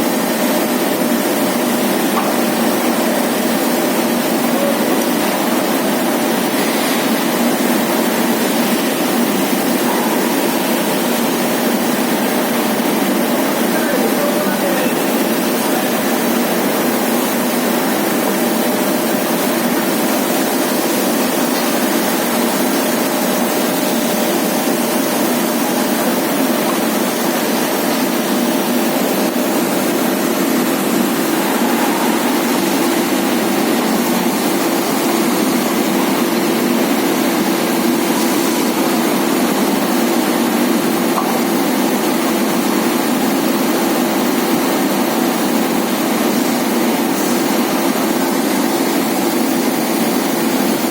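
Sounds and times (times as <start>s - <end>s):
washing machine drone: 0.0s - 50.9s.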